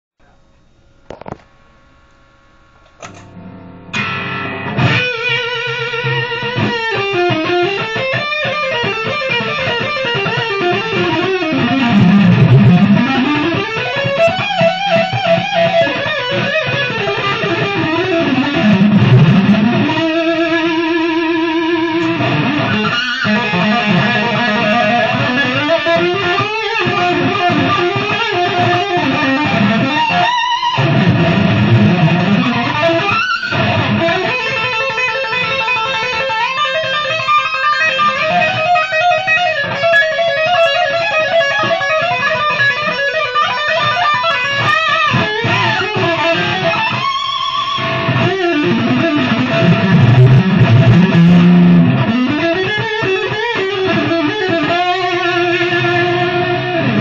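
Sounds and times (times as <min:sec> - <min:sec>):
fast electric guitar lead: 0:03.0 - 0:57.0.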